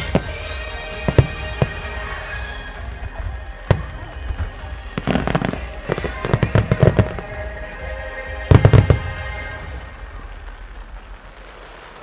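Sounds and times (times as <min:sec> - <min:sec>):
music with held tones: 0:00.0 - 0:10.6
fireworks booming: 0:00.0 - 0:12.0.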